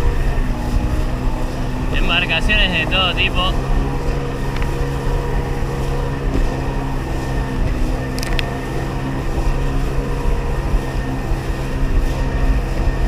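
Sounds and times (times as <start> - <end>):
personal watercraft engine running: 0.0 - 13.0.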